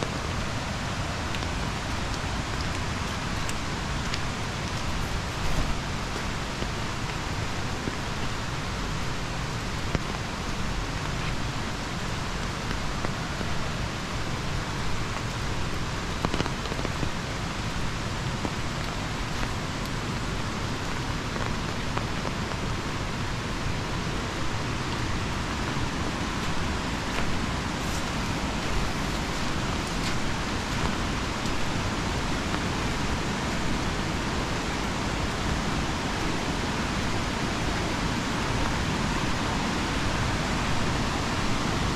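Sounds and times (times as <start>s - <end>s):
rush of falling water: 0.0s - 41.9s.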